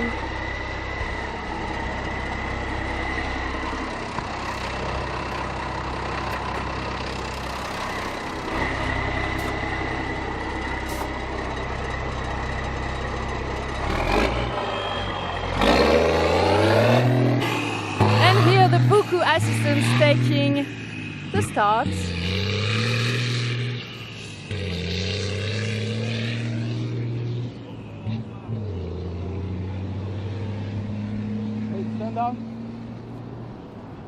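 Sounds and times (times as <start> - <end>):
diesel truck engine idling and revving: 0.0 - 34.0.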